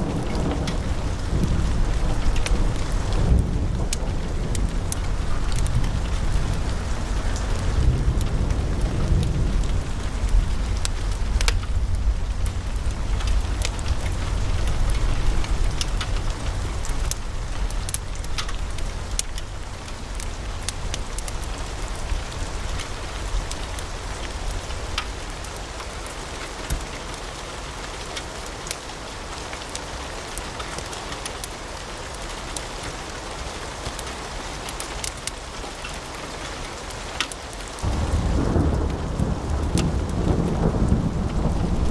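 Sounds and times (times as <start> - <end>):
fire crackling and popping: 0.0 - 28.9, 33.8 - 41.9
low rumble of flames: 0.0 - 32.3, 33.9 - 41.9.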